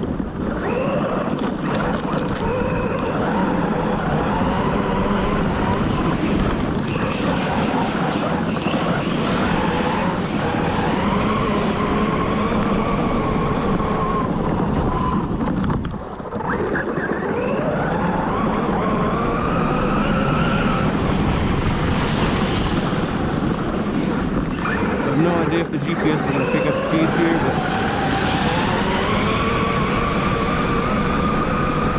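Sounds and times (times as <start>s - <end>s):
drivetrain and tyre noise: 0.0s - 31.9s
electric motor whining: 0.5s - 15.5s, 17.3s - 31.9s.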